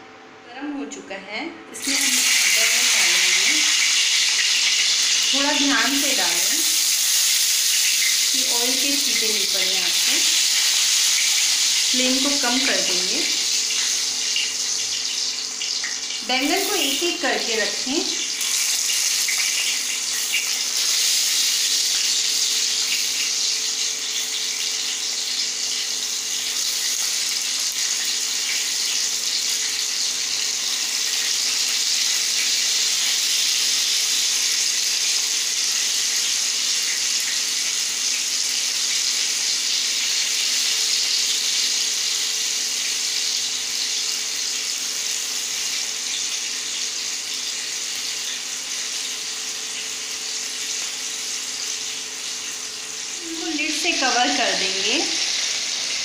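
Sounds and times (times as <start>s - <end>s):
eggplant sizzling in hot oil: 1.7s - 56.0s.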